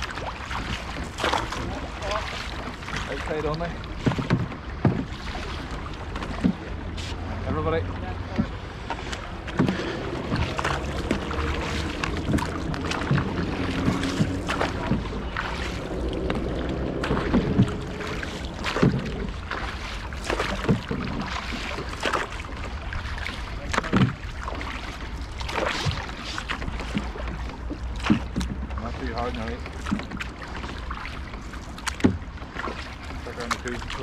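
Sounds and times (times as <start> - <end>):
wind rumble on microphone: 0.0 - 30.4
canoe paddles splashing: 0.0 - 34.0
paddle knocking against canoe: 0.0 - 34.0.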